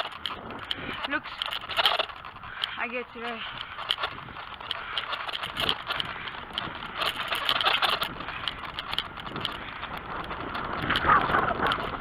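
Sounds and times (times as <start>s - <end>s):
bicycle clicks and rattles: 0.0s - 12.0s
road and wind noise: 0.0s - 12.0s.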